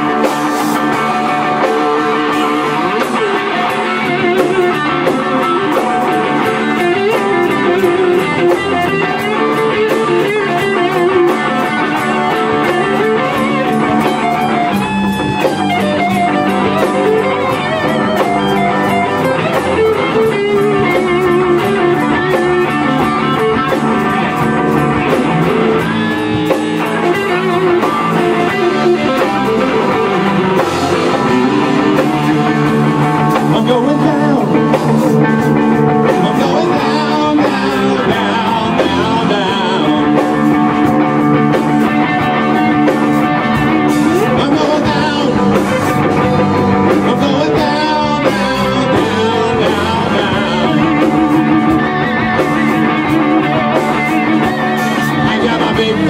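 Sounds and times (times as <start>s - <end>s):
distorted electric guitars: 0.0s - 56.0s
drum kit beat: 0.0s - 56.0s
person singing lead vocal: 0.0s - 56.0s.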